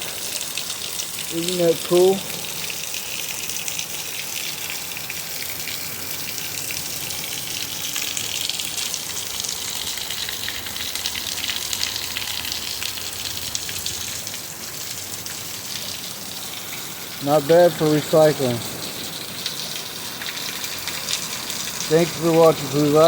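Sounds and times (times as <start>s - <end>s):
fine drips: 0.0s - 23.0s
steady rain: 0.0s - 23.0s
water splashing down rain chain: 0.0s - 23.0s.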